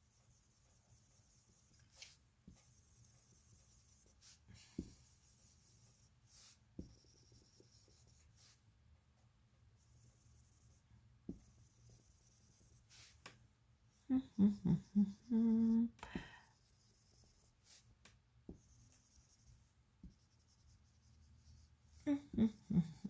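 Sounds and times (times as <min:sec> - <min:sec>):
marker scribbling on whiteboard: 0:00.0 - 0:08.6, 0:09.8 - 0:13.4, 0:16.5 - 0:23.0.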